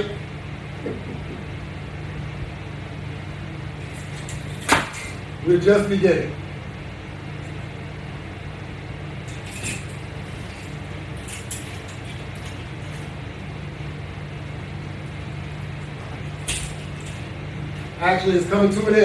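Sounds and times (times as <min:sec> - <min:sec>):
constant hiss: 0:00.0 - 0:19.0
low hum: 0:00.0 - 0:19.0.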